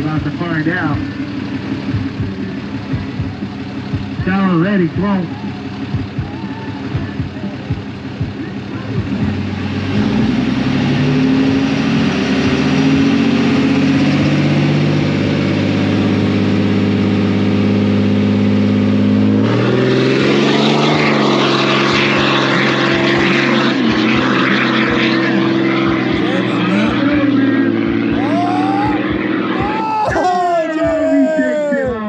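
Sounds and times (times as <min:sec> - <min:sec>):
truck engines revving: 0:00.0 - 0:32.0.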